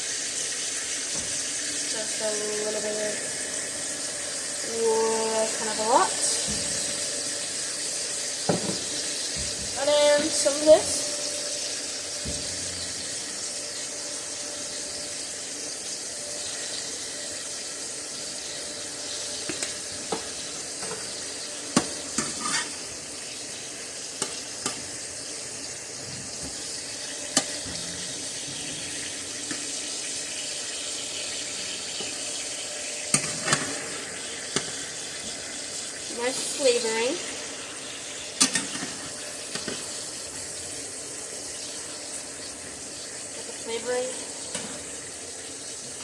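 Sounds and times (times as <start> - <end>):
steaks sizzling in frying pan: 0.0 - 46.0.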